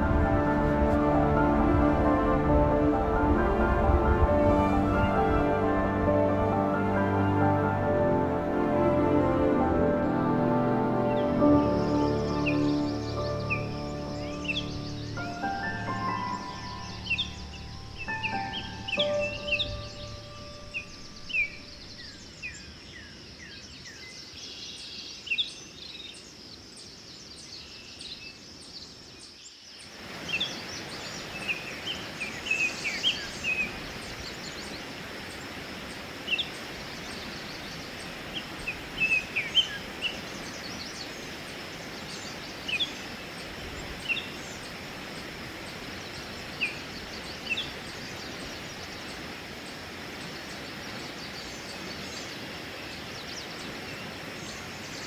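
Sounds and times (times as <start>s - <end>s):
birds chirping: 0.0s - 22.6s, 30.2s - 55.0s
steady outdoor hiss: 0.0s - 55.0s.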